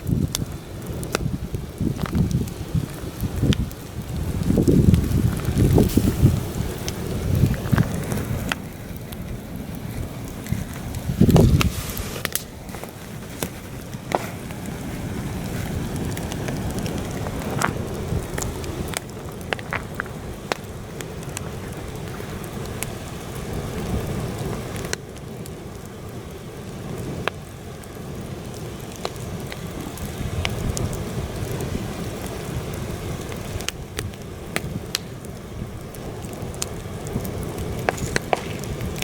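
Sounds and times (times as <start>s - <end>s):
campfire crackling and popping: 0.0s - 39.0s
wind rumbling on microphone: 0.0s - 39.0s.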